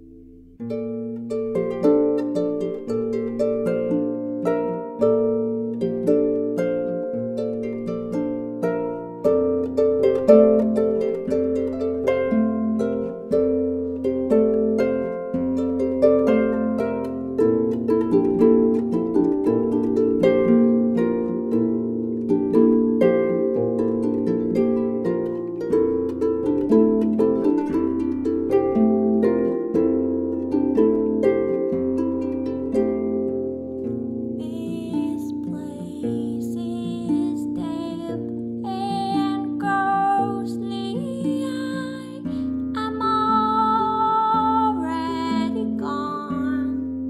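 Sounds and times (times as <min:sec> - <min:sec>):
plucked string melody: 0:00.0 - 0:47.0.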